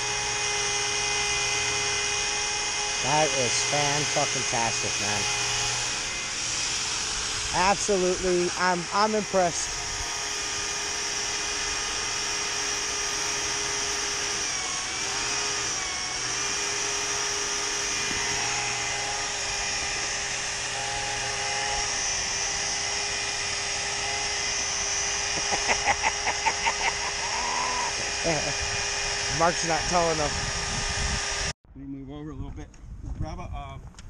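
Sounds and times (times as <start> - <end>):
electric polisher whirring: 0.0 - 31.6.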